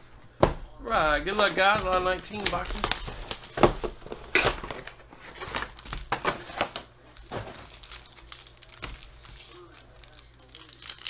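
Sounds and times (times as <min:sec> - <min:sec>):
foil wrappers crinkling: 0:01.3 - 0:11.0.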